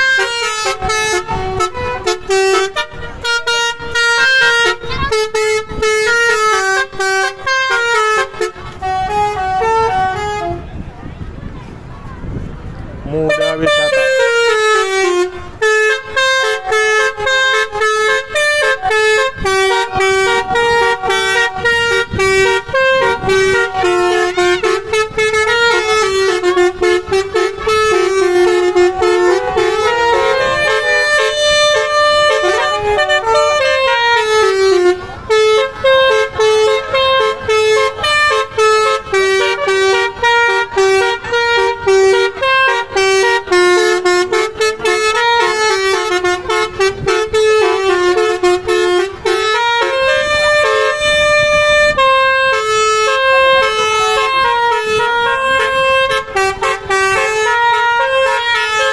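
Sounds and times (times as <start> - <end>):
musical horn playing fast tune: 0.0 - 10.9, 13.1 - 58.9.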